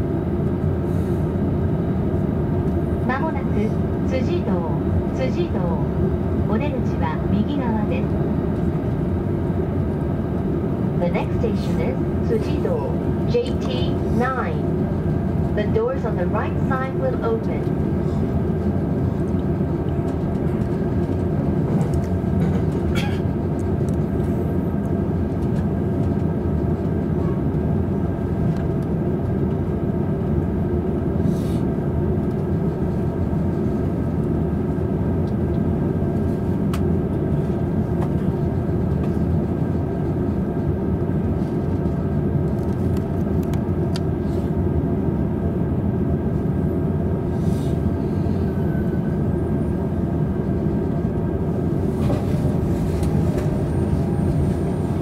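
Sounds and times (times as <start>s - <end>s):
faint constant hum: 0.0s - 55.0s
train cabin rumble: 0.0s - 55.0s.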